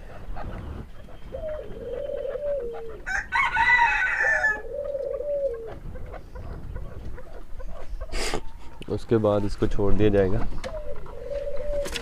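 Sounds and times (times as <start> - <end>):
low wavering bird calls: 0.0 - 9.0, 10.5 - 12.0.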